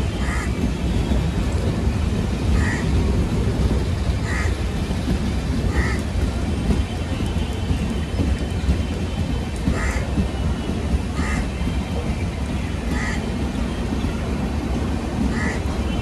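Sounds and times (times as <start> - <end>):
train coaches rumbling past: 0.0 - 16.0.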